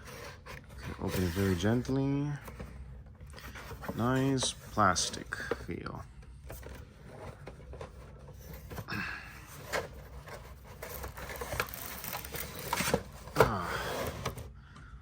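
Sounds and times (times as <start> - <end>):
plastic packaging rustling: 0.0 - 14.5.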